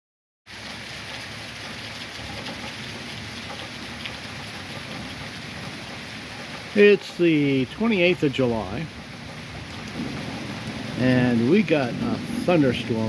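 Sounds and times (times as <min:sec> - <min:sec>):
rain falling steadily: 0:00.5 - 0:13.0.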